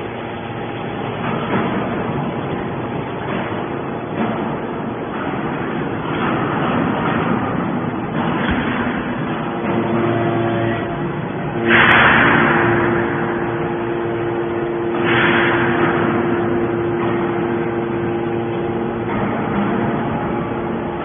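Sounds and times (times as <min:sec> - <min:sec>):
baler motor and pump hum: 0:00.0 - 0:21.0
hydraulic rushing surge: 0:00.0 - 0:21.0.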